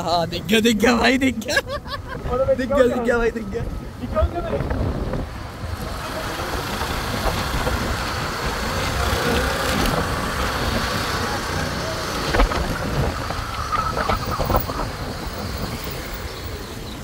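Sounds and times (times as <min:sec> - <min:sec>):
motorbike engine and road noise: 0:01.9 - 0:17.0
wind rumbling on microphone: 0:02.0 - 0:17.0.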